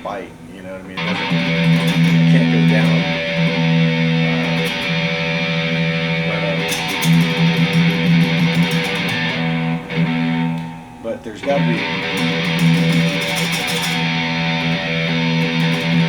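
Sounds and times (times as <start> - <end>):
electric guitar picking: 0.0 - 16.0.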